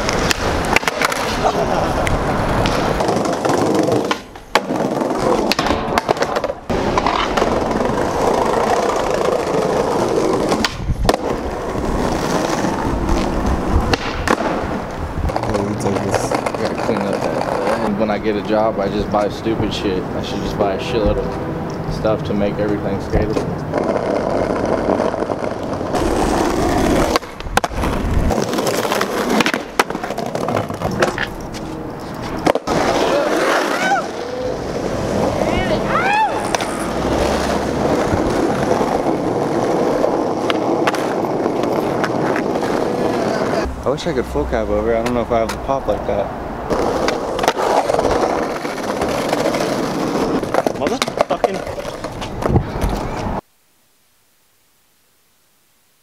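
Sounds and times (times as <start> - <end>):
skateboard clacking on ground: 0.0 - 18.2, 22.6 - 35.8, 36.4 - 43.7, 44.9 - 45.7, 46.7 - 53.4
skateboard wheels rolling on concrete: 0.0 - 53.5.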